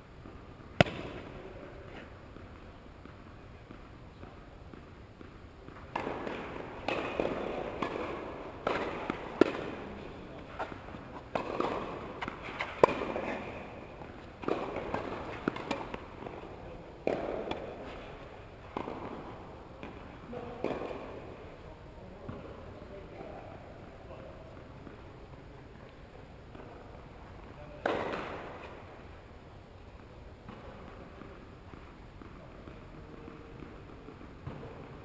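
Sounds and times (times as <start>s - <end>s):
racket hitting ball: 0.2s - 21.4s, 26.5s - 29.0s, 30.4s - 35.0s
tennis ball bouncing: 0.2s - 29.3s, 30.0s - 35.0s.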